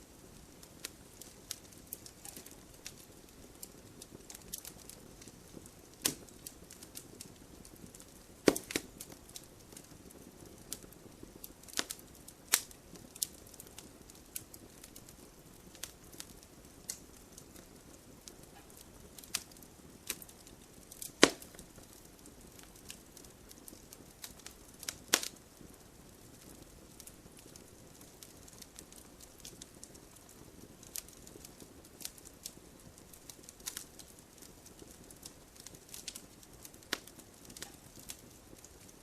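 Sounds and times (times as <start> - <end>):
fire hissing in wood stove: 0.0 - 39.0
wood crackling and popping: 0.0 - 39.0.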